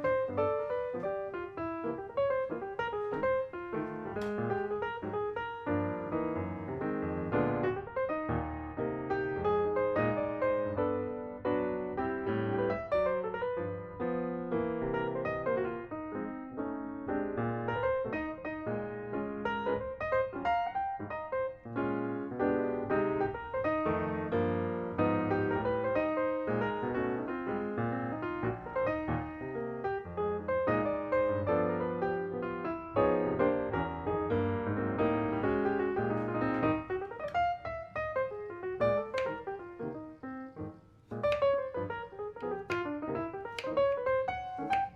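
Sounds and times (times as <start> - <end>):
piano music: 0.0 - 44.9.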